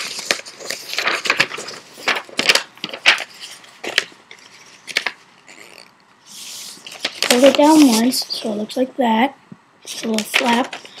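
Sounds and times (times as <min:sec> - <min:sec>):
paper being folded and creased: 0:00.0 - 0:08.5, 0:09.8 - 0:11.0.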